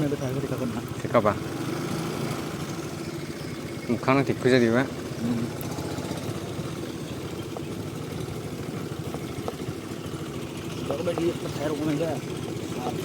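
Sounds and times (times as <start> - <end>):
scooter engine idling low: 0.0 - 1.5, 2.2 - 13.0.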